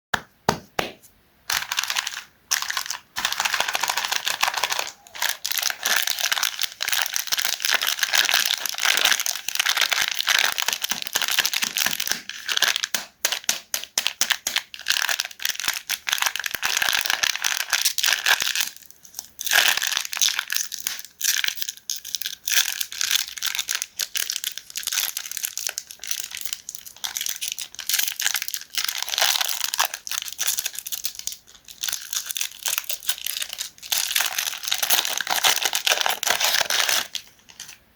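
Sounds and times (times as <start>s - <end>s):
wrapper crinkling and tearing: 1.5s - 37.8s.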